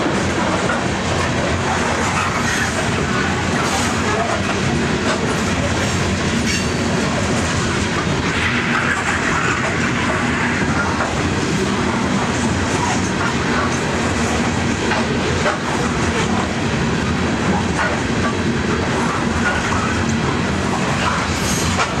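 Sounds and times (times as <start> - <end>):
wheels clacking over rail joints: 0.0 - 16.6, 17.3 - 22.0
train wheels rumbling on rails: 0.0 - 22.0.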